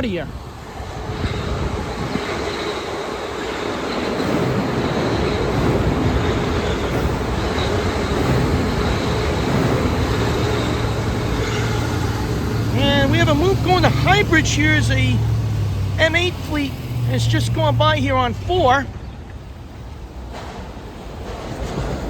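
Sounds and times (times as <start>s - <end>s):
train wheels rumbling on rails: 0.0s - 22.0s
faint high wheel squeal: 1.0s - 19.3s.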